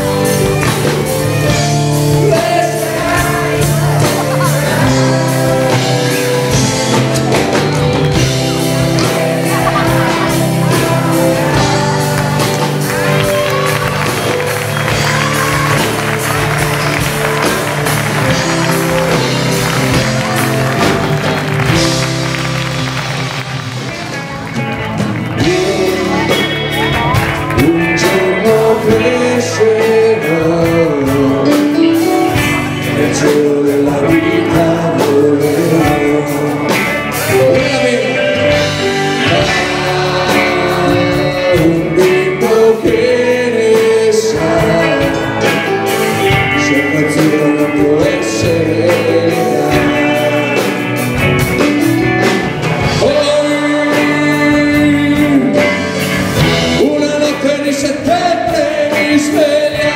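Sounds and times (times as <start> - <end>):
person singing: 0.0 - 22.0, 24.1 - 59.9
pop-rock band playing live: 0.0 - 59.9.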